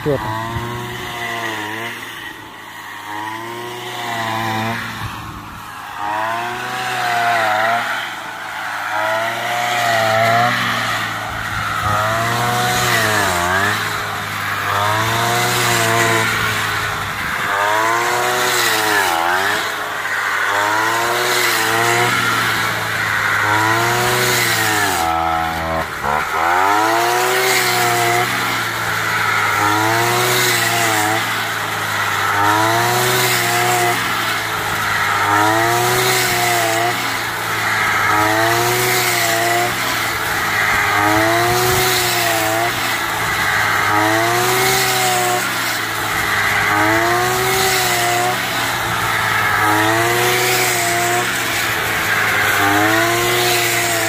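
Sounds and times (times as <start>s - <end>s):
brush cutter engine cutting: 0.0s - 54.0s.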